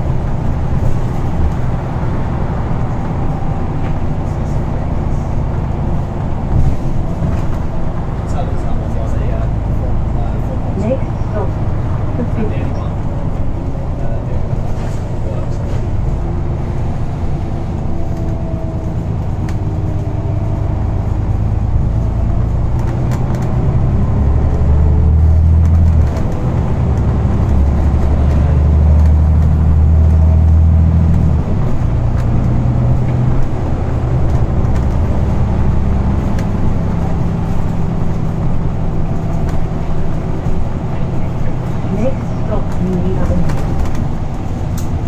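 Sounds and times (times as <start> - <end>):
bus diesel engine droning: 0.0 - 45.0.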